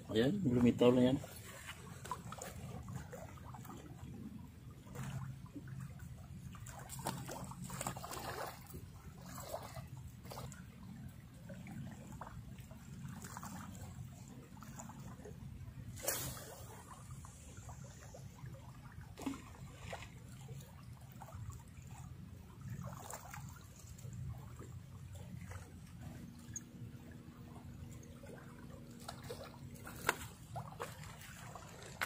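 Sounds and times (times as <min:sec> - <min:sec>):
small water splashes: 0:00.0 - 0:32.0
water lapping around legs: 0:00.0 - 0:32.0.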